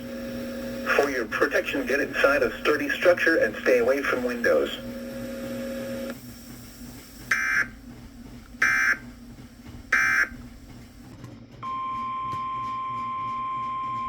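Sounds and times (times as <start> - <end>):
steady warning alarm tone: 0.0 - 14.0.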